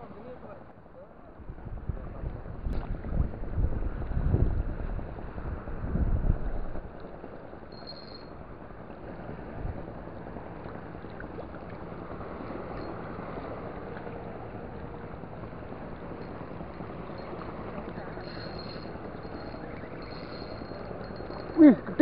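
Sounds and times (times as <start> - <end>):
wind over choppy water: 0.0 - 22.0
wind rumbling on microphone: 0.0 - 22.0.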